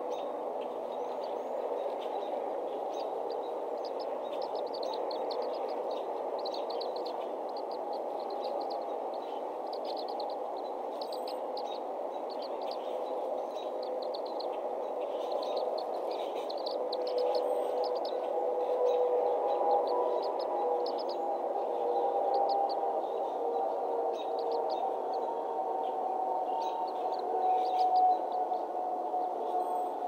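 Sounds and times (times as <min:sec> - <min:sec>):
birds chirping: 0:00.0 - 0:30.0
low rushing background noise: 0:00.0 - 0:30.0.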